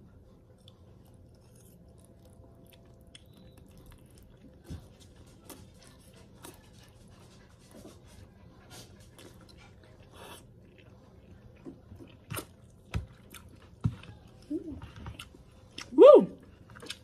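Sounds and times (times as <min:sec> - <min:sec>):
chewing noodles: 0:00.2 - 0:17.0.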